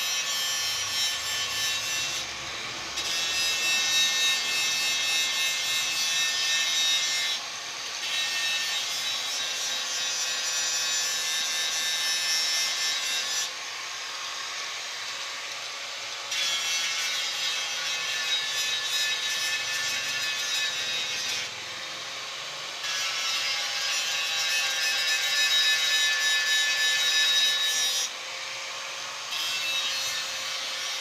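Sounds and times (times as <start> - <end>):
power sander on metal tank: 0.0 - 31.0.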